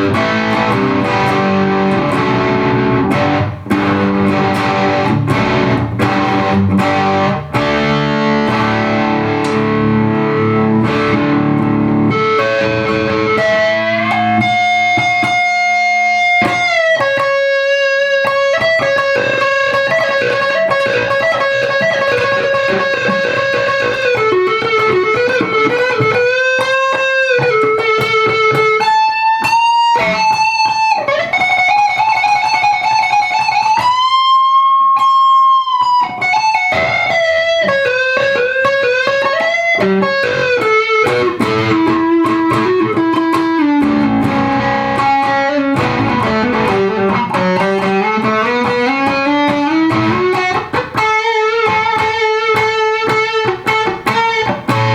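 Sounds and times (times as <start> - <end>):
distorted electric guitar lead: 0.0 - 54.9.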